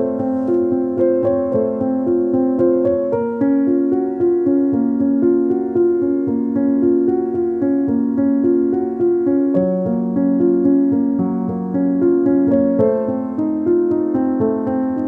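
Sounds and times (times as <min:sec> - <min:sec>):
piano piece: 0:00.0 - 0:15.0.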